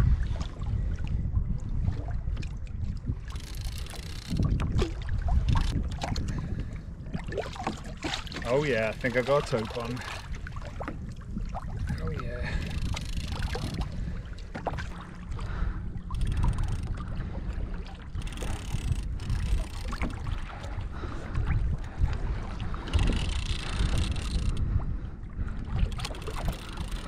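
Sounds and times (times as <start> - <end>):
water lapping against hull: 0.0 - 27.0
wind buffeting microphone: 0.0 - 27.0.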